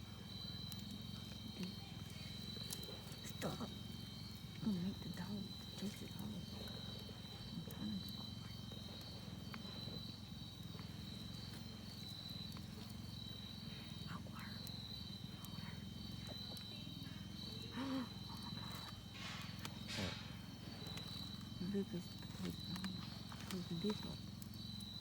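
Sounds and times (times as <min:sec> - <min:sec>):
insects chirring: 0:00.0 - 0:25.0
low steady hum: 0:00.0 - 0:25.0.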